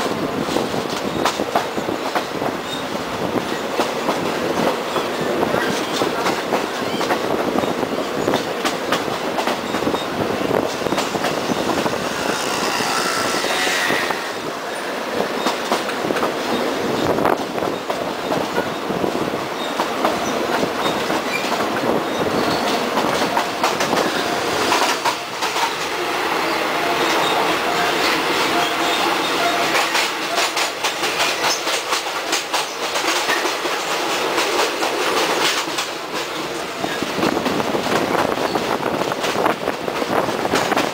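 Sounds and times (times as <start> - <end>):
train wheels clicking over rail joints: 0.0 - 40.9.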